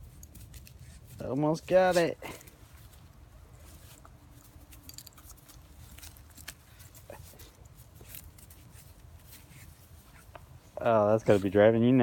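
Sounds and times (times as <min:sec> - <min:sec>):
faint clicks and rustles: 0:00.0 - 0:11.6.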